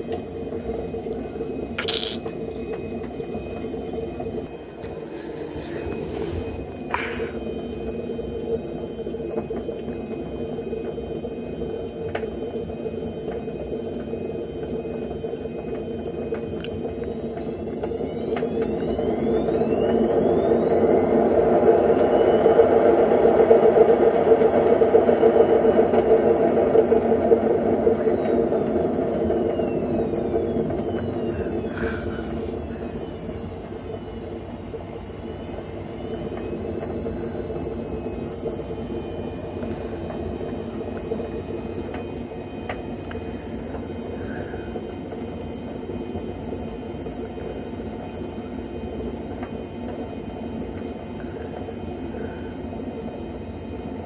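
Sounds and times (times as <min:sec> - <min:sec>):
washing machine drum whine: 0:00.0 - 0:54.0
washing machine humming: 0:00.0 - 0:54.0.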